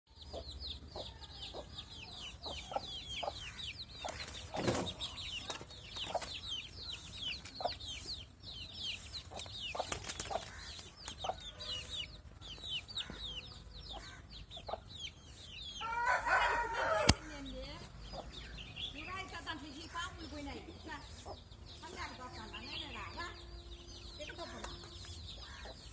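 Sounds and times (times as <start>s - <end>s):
chicks peeping: 0.1s - 25.9s.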